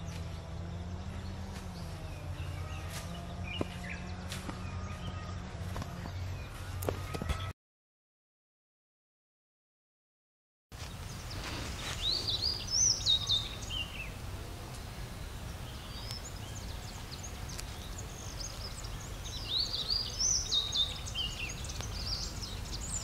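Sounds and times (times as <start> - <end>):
songbird singing: 0.0 - 7.5, 10.8 - 23.0.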